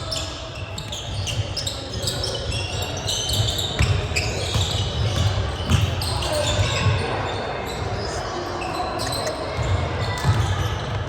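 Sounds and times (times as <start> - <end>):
sneaker squeaks: 0.0 - 11.0.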